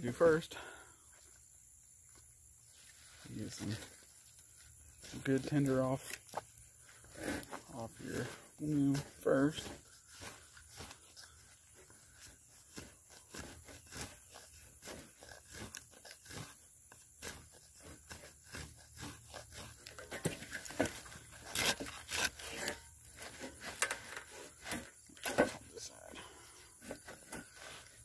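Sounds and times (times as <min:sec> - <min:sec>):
knife scraping wood: 0:02.8 - 0:28.0.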